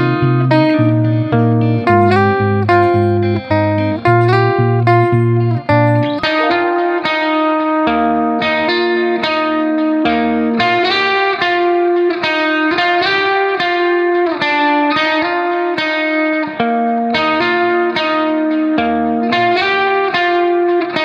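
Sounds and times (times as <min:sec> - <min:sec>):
plucked guitar melody: 0:00.0 - 0:21.0.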